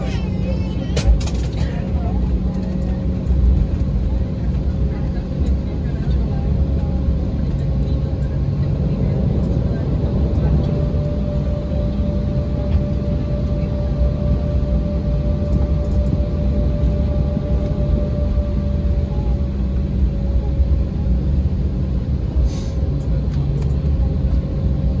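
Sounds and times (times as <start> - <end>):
constant whine: 0.0 - 25.0
jet engines rumbling: 0.0 - 25.0.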